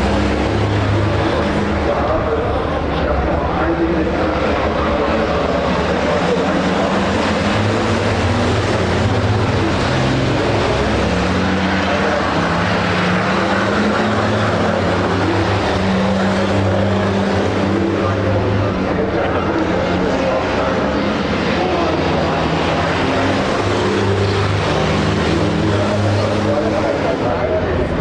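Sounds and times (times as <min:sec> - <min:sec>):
diesel truck engines droning: 0:00.0 - 0:28.0.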